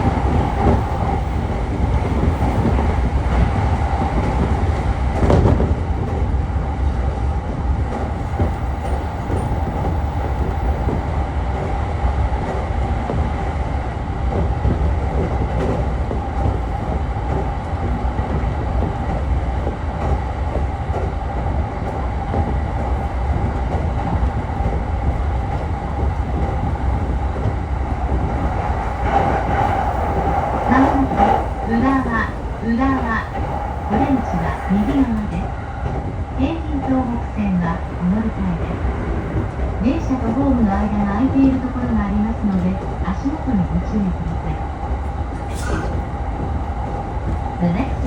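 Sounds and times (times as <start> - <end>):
constant train hum: 0.0 - 48.0
train wheels rumbling on rail: 0.0 - 48.0.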